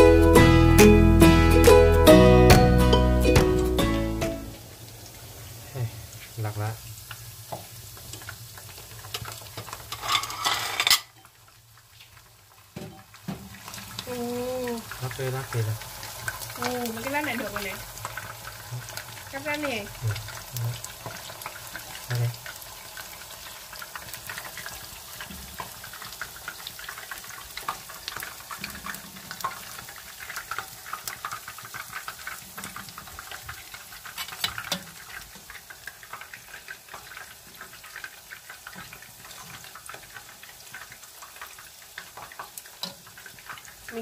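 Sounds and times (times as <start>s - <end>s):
fish cakes sizzling in oil: 0.0s - 44.0s
oil crackling and popping: 4.6s - 44.0s.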